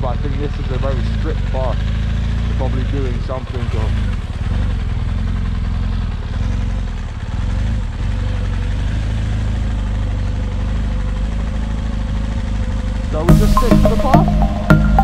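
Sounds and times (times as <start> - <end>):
motorcycle engine running: 0.0 - 13.3.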